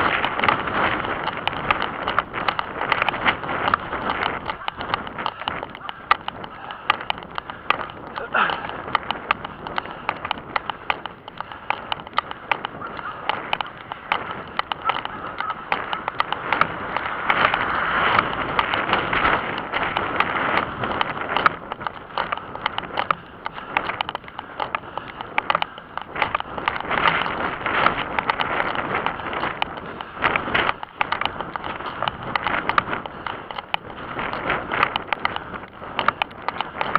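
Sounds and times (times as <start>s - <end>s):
camera rubbing and wind noise: 0.0s - 36.9s
running footsteps on paving: 0.0s - 36.9s.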